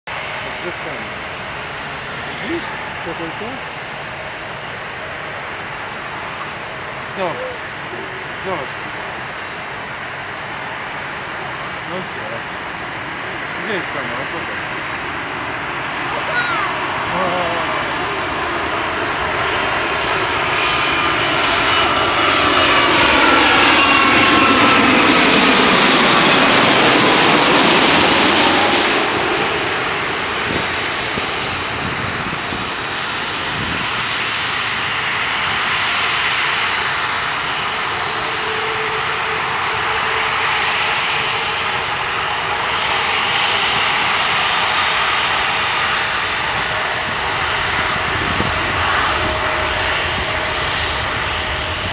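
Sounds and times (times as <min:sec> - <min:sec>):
jet engines rushing overhead: 0:00.1 - 0:51.9.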